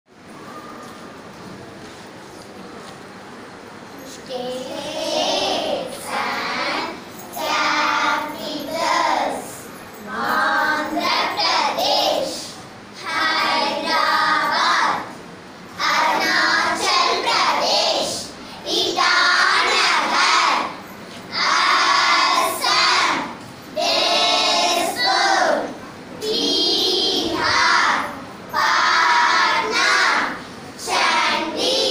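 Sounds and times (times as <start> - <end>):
girls singing in unison: 4.4 - 15.2, 15.8 - 31.9.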